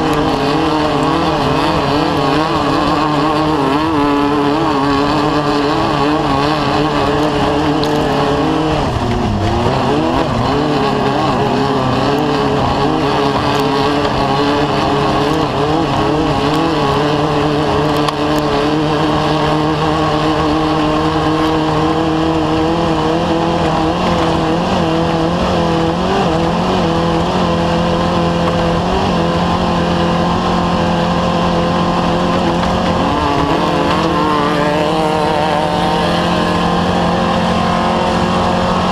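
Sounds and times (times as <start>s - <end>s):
engine revving at high revs: 0.0s - 38.9s.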